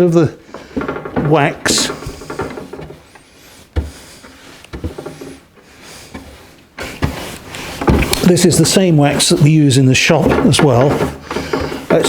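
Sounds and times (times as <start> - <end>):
faint rubbing and shuffling: 0.0 - 12.0.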